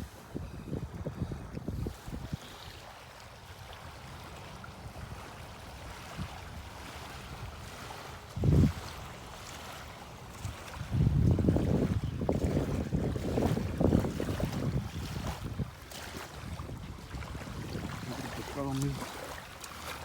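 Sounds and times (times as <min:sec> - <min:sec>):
wind buffeting microphone: 0:00.0 - 0:02.7, 0:04.8 - 0:09.5, 0:10.2 - 0:19.2
wind and water hiss: 0:00.0 - 0:20.0.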